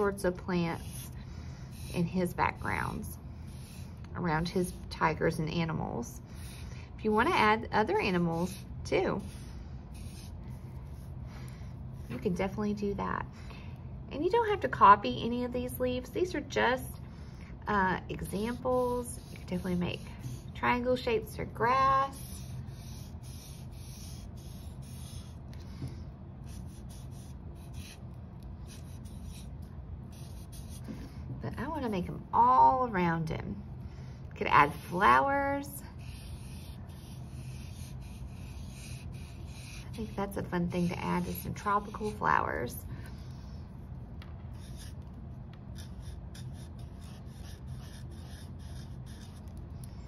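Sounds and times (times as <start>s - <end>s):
marker scratching on paper: 0.0s - 12.7s, 18.1s - 32.1s, 34.5s - 43.3s, 44.5s - 50.0s
faint steady hum: 0.0s - 50.0s.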